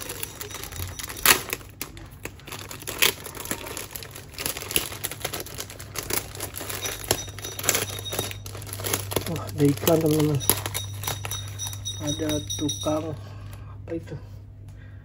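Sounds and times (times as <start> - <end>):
plastic bag crinkling: 0.0 - 13.0
low hum: 0.0 - 15.0.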